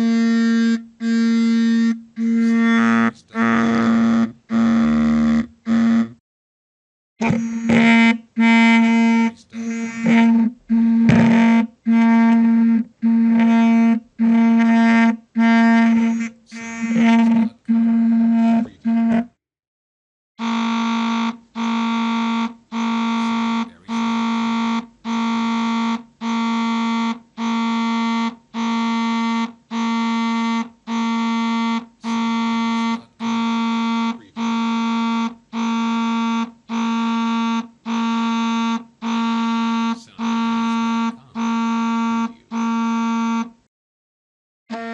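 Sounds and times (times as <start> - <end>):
phone vibration buzzing: 0.0 - 6.2, 7.2 - 19.4, 20.4 - 43.6.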